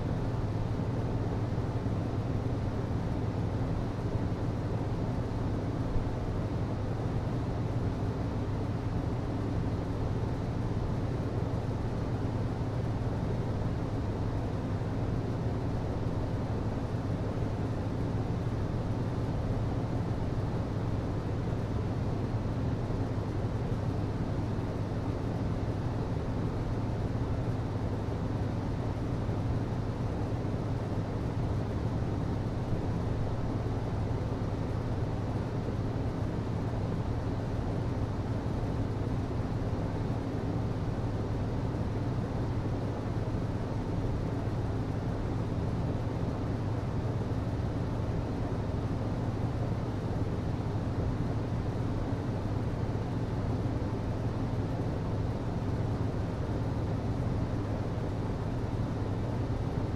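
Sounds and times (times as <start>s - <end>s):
constant low hum: 0.0s - 59.9s.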